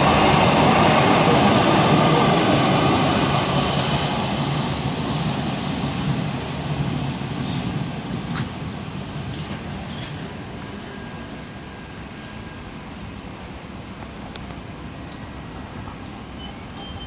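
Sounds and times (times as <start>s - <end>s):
light rail train passing: 0.0s - 17.0s.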